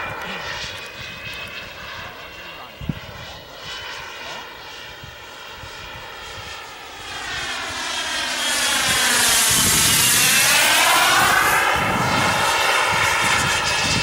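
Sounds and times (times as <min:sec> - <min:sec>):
model jet whine: 0:00.0 - 0:14.0.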